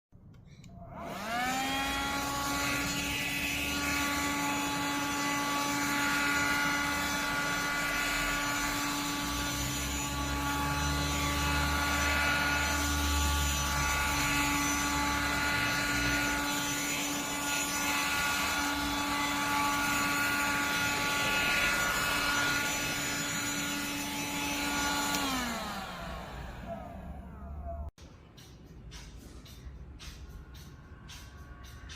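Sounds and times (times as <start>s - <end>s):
vacuum cleaner motor whining: 0.8s - 27.9s.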